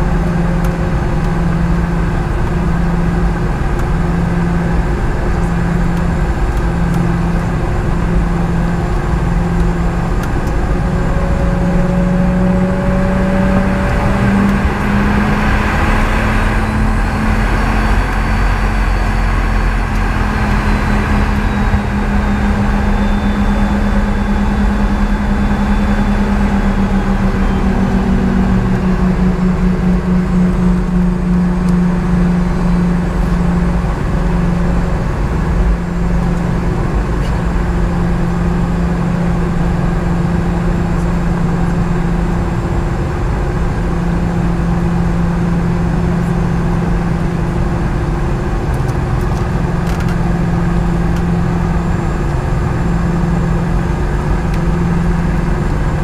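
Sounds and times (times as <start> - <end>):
faint high whine: 0.0 - 56.0
jet engine drone: 0.0 - 56.0.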